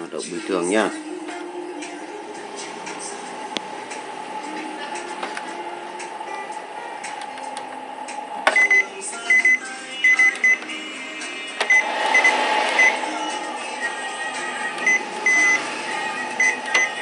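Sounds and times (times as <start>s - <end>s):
steady hum: 0.1s - 17.0s.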